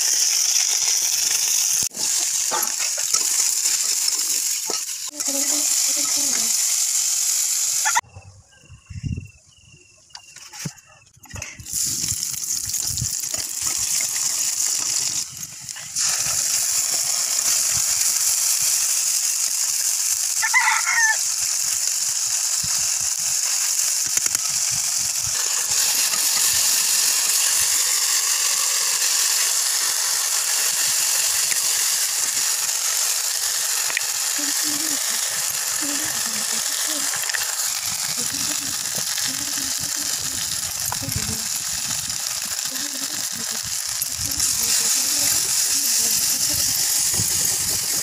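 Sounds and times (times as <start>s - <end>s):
onions sizzling in hot oil: 0.0s - 8.0s, 11.6s - 48.0s.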